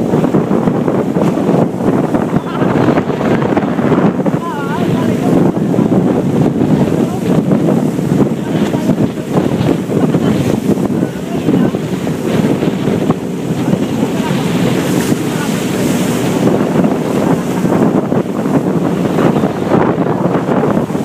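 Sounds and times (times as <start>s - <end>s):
boat engine hum: 0.0s - 21.0s
waves washing along hull: 0.0s - 21.0s
wind rushing over microphone: 0.0s - 21.0s.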